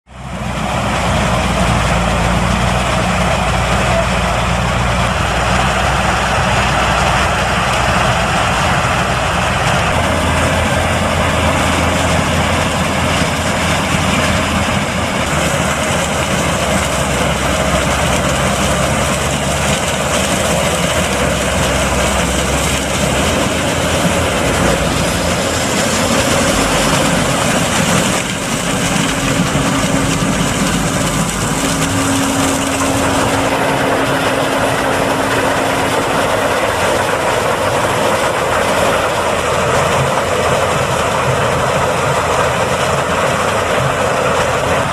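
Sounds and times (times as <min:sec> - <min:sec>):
tractor engine: 0:00.0 - 0:44.9
combine harvester engine drone: 0:00.1 - 0:44.9.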